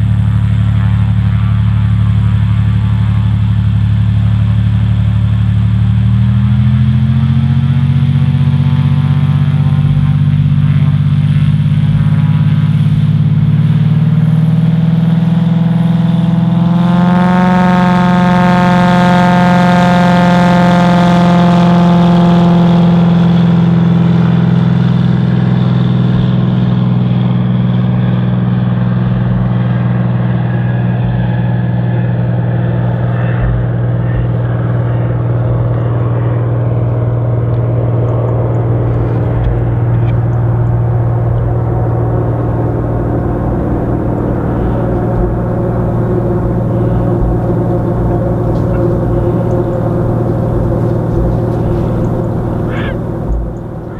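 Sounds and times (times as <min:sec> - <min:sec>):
propeller plane engine at takeoff: 0:00.0 - 0:53.9.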